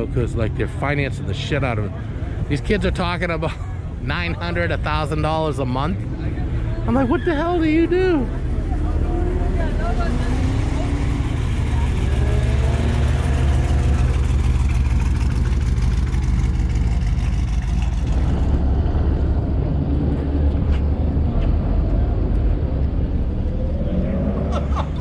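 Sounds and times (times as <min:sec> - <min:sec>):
car engine rumble: 0:00.0 - 0:25.0.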